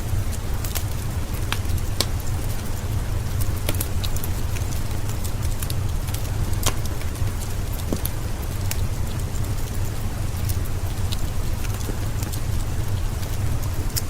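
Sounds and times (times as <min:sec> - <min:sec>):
burning logs popping: 0:00.0 - 0:14.0
steady rain: 0:00.0 - 0:14.0
wood fire crackling: 0:00.0 - 0:14.0.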